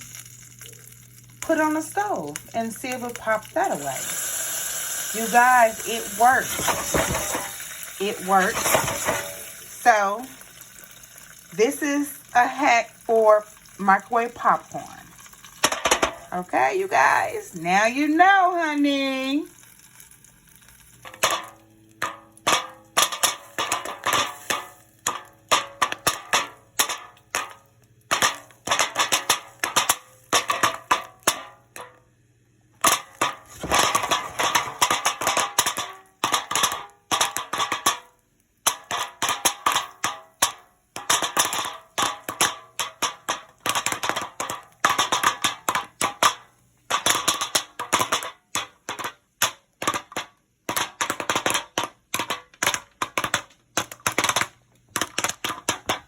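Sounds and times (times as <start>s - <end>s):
popcorn popping: 0.0s - 56.0s.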